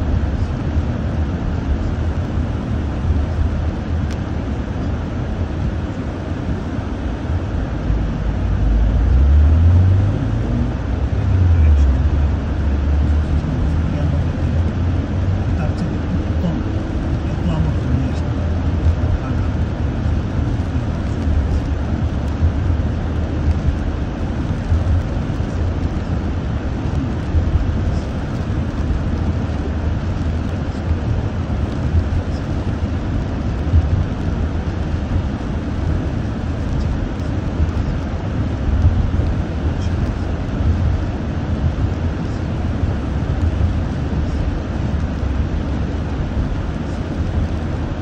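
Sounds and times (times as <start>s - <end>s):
car driving on wet road: 0.0s - 48.0s.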